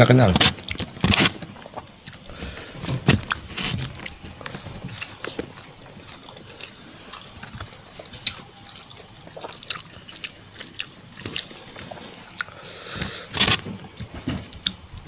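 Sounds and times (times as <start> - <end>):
wet chewing: 0.2 - 15.0
lip smacks: 0.6 - 14.8.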